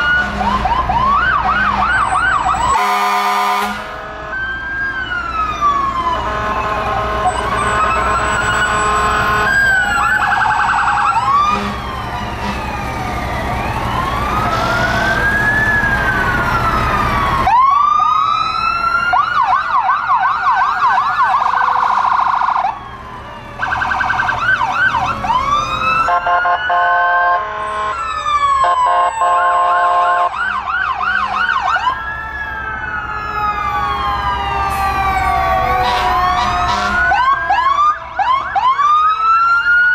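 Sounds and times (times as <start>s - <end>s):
emergency vehicle sirens: 0.0s - 39.9s
truck engines: 0.0s - 39.9s.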